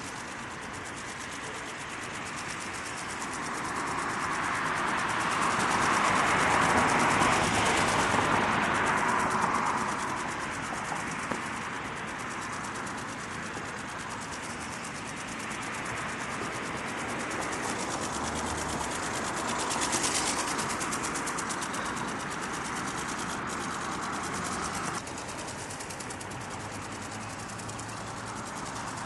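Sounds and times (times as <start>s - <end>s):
flapping wings rhythmic rustling: 0.0s - 29.0s.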